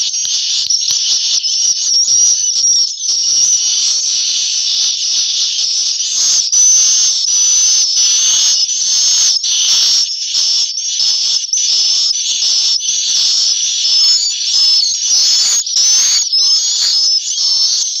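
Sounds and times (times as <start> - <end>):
swiftlets chirping and trilling: 0.0 - 18.0.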